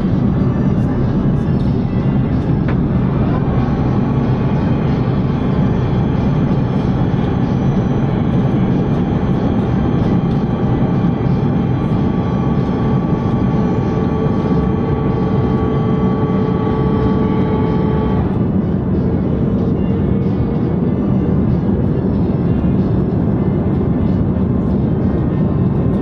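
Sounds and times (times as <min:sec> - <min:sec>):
airplane cabin roar: 0:00.0 - 0:26.0
faint steady humming tones: 0:00.0 - 0:26.0.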